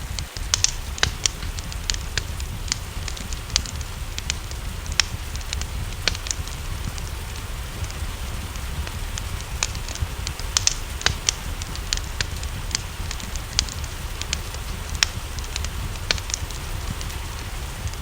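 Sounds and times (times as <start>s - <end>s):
low rumble: 0.0s - 18.0s
rain hissing: 0.0s - 18.0s
wood fire crackling and popping: 0.0s - 18.0s.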